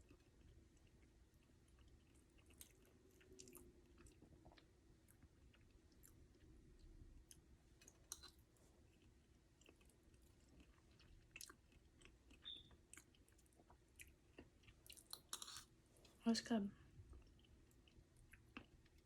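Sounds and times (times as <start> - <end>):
person chewing food: 0.0 - 16.2, 17.1 - 19.0.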